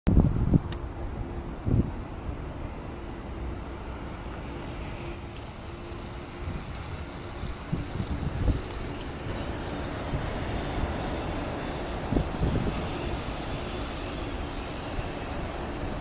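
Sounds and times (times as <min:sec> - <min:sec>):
wind buffeting microphone: 0:00.1 - 0:03.0, 0:04.3 - 0:16.0
jet engines rumbling: 0:00.1 - 0:16.0.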